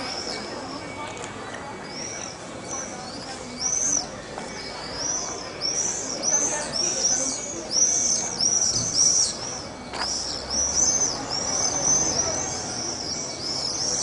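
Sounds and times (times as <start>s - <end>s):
small birds chirping: 1.8s - 14.0s.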